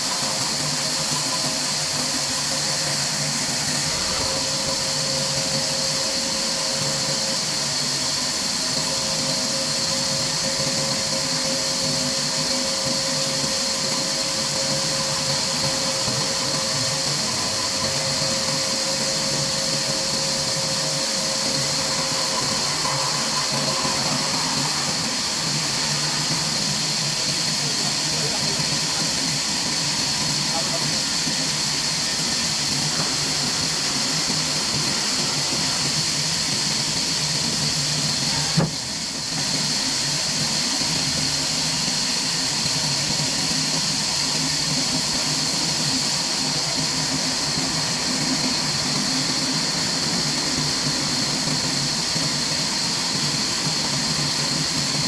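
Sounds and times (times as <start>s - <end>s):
machinery hissing: 0.1s - 55.0s.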